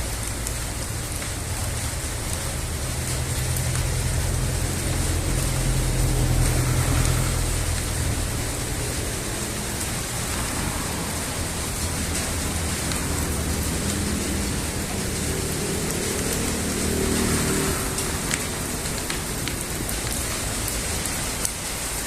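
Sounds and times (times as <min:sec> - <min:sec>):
engine hum: 0:00.0 - 0:22.0
heavy rain falling: 0:00.0 - 0:22.0
vehicle engine rumble: 0:00.0 - 0:22.0.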